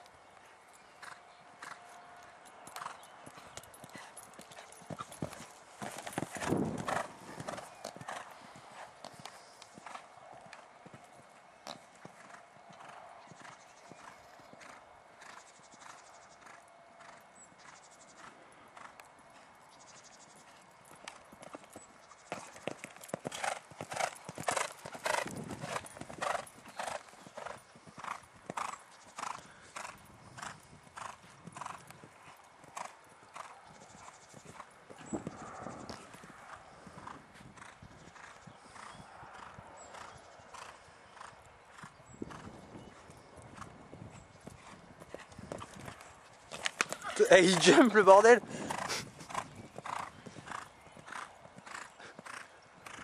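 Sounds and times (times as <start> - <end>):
pony hoofbeats cantering on sand: 0.0 - 53.0.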